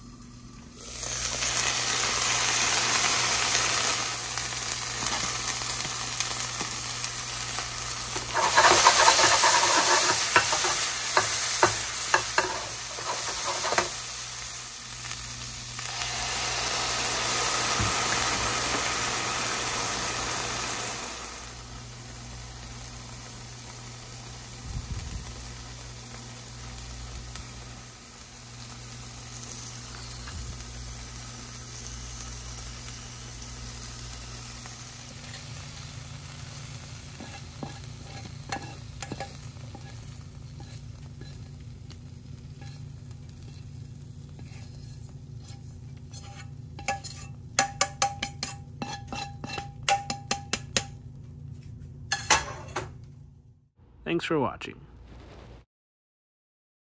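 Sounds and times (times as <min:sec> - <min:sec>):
beans sizzling in oil: 0:00.0 - 0:51.0.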